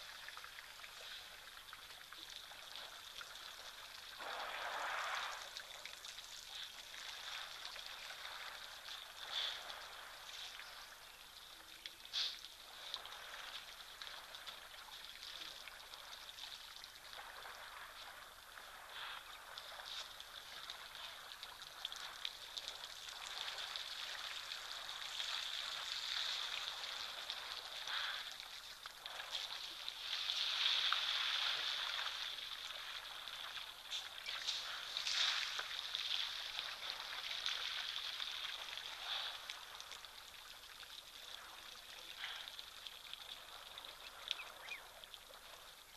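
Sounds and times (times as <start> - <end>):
steady high-pitched hiss: 0.0 - 45.9.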